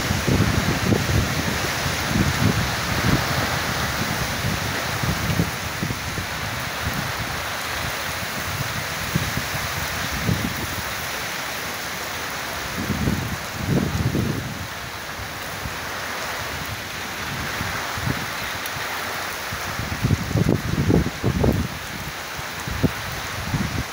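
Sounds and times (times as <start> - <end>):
low gusty rumbles: 0.0 - 11.1, 12.2 - 18.4, 19.5 - 23.9
heavy rain falling: 0.0 - 23.9.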